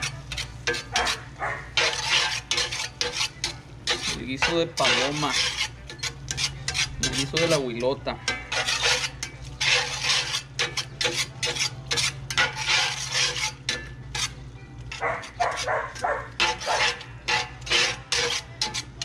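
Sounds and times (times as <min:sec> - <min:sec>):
metal spatula scraping a skillet: 0:00.0 - 0:19.0.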